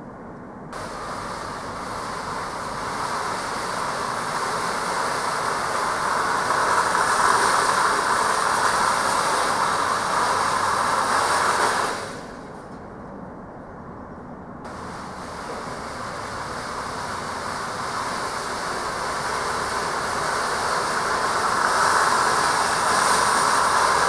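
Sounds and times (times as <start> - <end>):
even rushing noise: 0.7 - 13.0, 14.6 - 24.0.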